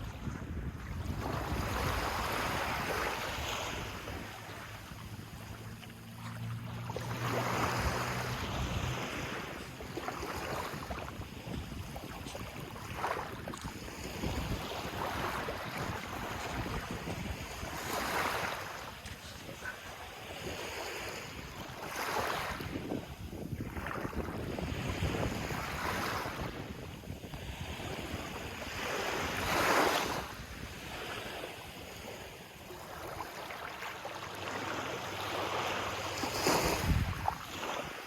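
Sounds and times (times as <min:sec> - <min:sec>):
wind buffeting microphone: 0:00.0 - 0:05.7, 0:06.4 - 0:32.0, 0:36.3 - 0:38.0
sea waves washing in: 0:00.0 - 0:38.0.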